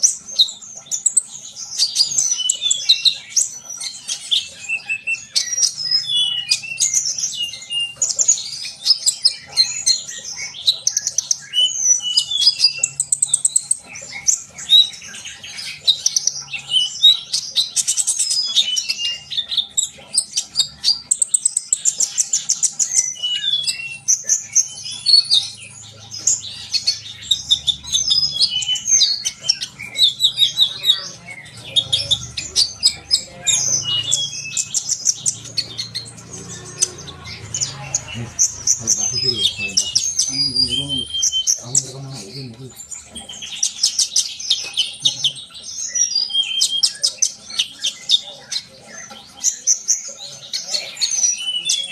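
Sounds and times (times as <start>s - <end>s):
sunbird singing: 0.0s - 51.9s.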